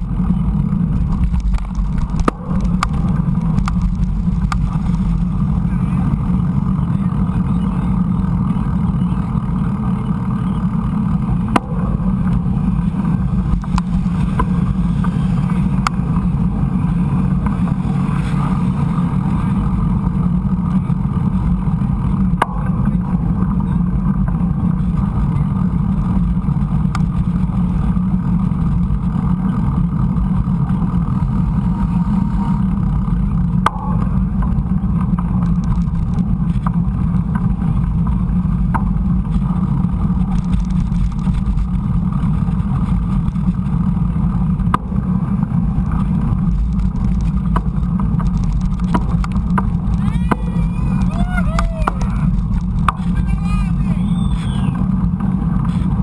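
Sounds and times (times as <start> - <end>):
bike trail noise: 0.0 - 56.0
wind rumble: 0.0 - 56.0.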